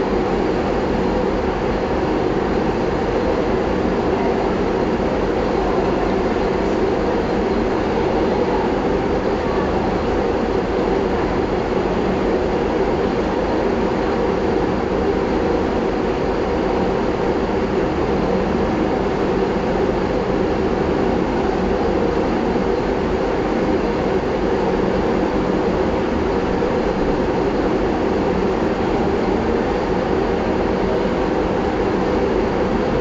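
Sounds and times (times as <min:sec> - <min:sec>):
steady rumbling noise: 0:00.0 - 0:33.0.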